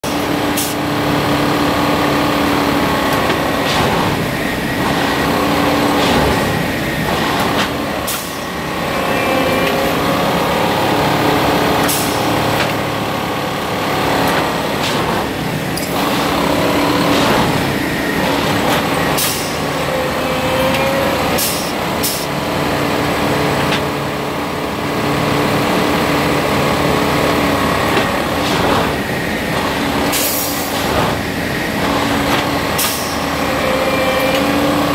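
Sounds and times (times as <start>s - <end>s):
heavy machine engine running: 0.0s - 34.9s.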